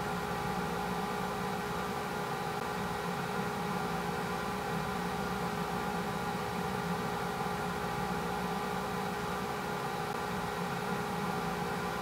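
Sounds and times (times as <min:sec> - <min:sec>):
machine hum with held tones: 0:00.0 - 0:12.0.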